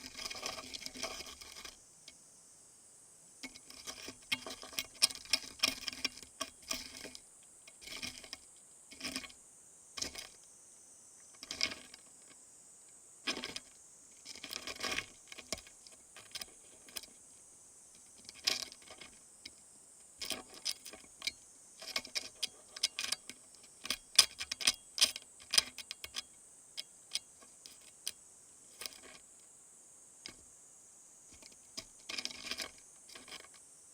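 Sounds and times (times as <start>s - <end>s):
beetles clicking and scratching: 0.0s - 2.2s, 3.4s - 29.6s, 30.2s - 30.6s, 31.2s - 33.9s
faint high hiss: 0.0s - 5.4s, 6.8s - 14.4s, 15.0s - 21.9s, 22.5s - 33.9s.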